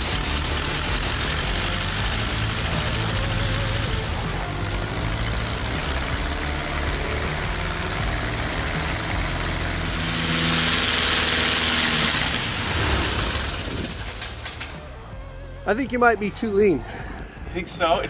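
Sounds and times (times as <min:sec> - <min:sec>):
propeller rushing hiss: 0:00.0 - 0:14.6
light aircraft engine running: 0:00.0 - 0:15.2.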